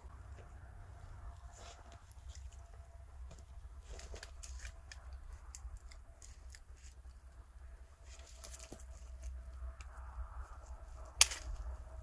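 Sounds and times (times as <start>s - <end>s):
dry twigs crackling and snapping: 1.6s - 12.0s.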